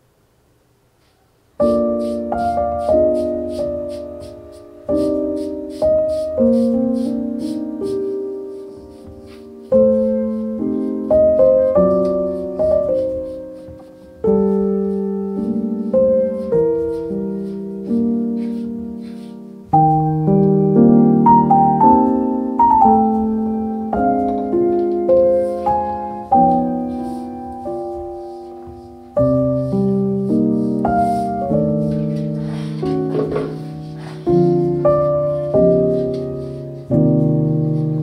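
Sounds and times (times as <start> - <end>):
gentle piano music: 1.5 - 38.0.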